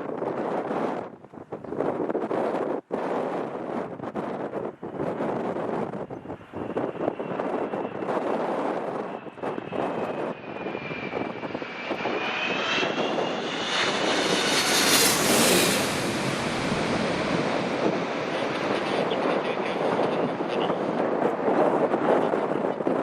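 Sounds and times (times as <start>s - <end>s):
wind buffeting microphone: 0.0s - 23.0s
jet airliner passing overhead: 3.0s - 23.0s.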